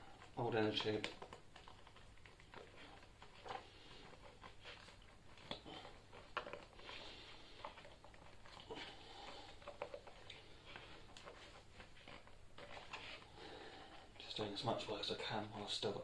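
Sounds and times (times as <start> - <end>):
rubber inner tube rustling: 0.0 - 16.0.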